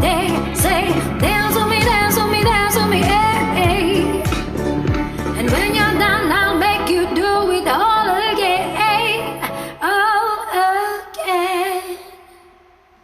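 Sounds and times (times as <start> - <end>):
pop backing track: 0.0 - 10.7
woman singing with vibrato: 0.0 - 12.6.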